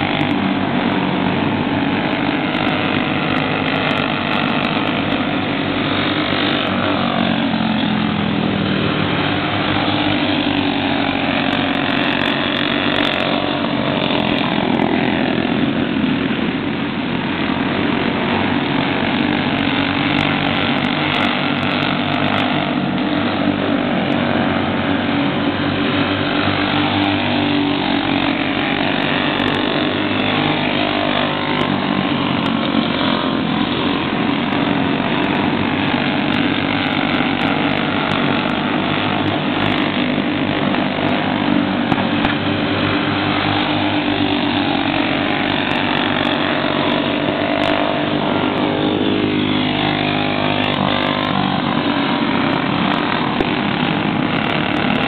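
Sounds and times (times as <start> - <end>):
go-kart engines racing: 0.0 - 55.0.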